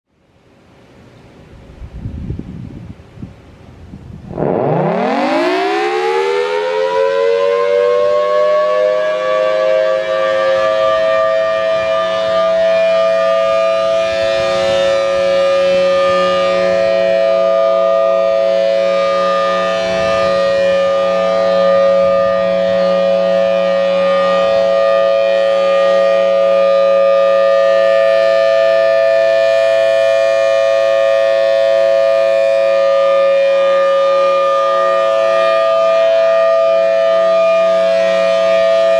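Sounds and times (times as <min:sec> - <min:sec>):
warning siren: 0:04.2 - 0:38.9.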